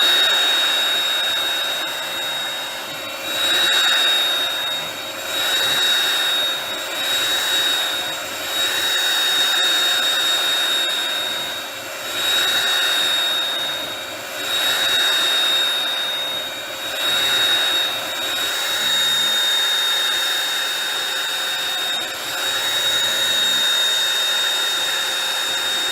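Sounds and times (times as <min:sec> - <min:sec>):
hand vacuum whining: 0:00.0 - 0:25.9.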